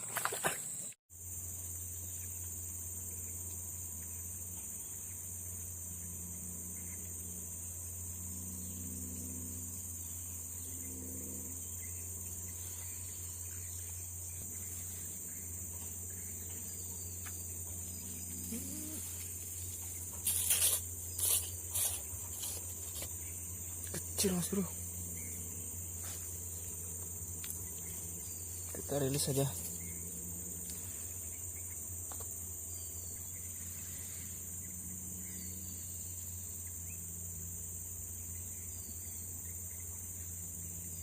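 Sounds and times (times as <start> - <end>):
insects chirping: 0.0 - 41.0
low steady hum: 1.2 - 41.0.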